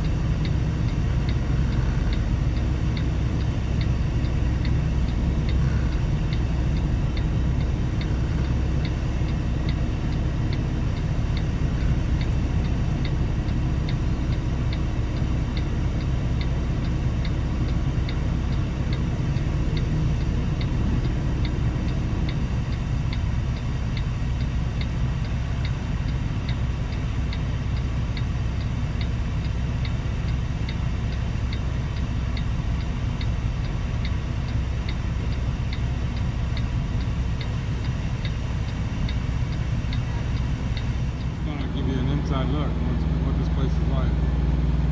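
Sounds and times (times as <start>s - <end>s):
light regular ticking: 0.0s - 41.7s
diesel truck engine rumbling: 0.0s - 44.9s.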